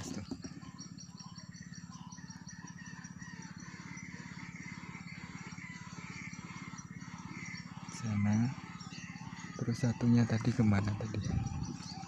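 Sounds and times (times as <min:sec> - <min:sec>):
low pulsing hum: 0:00.0 - 0:12.0
small birds chirping: 0:00.0 - 0:12.0.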